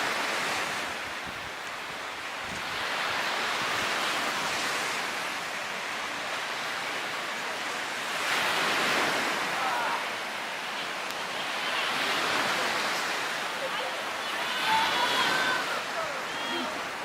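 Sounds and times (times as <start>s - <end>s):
sea waves washing onto beach: 0.0s - 17.0s.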